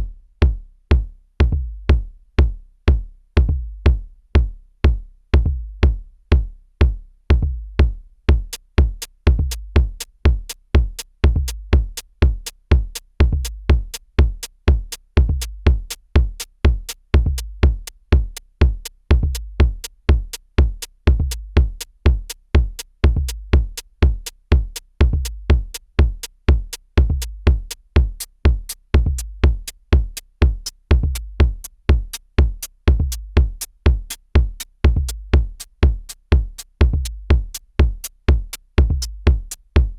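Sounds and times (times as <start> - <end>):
drum machine kick pattern: 0.0 - 39.9.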